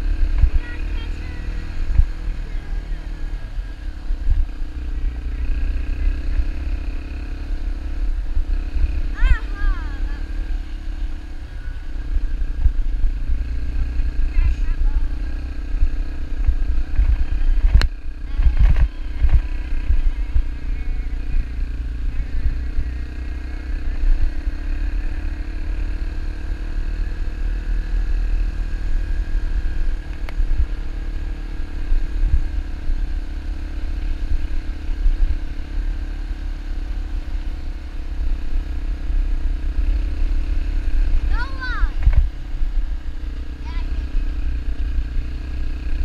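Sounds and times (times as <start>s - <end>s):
dirt bike engine running: 0.0s - 46.0s.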